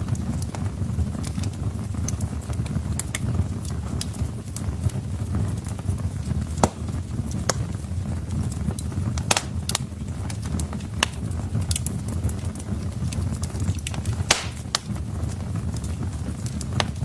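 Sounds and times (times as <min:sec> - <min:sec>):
fire low rumble: 0:00.0 - 0:17.0
logs crackling and popping: 0:00.0 - 0:17.0.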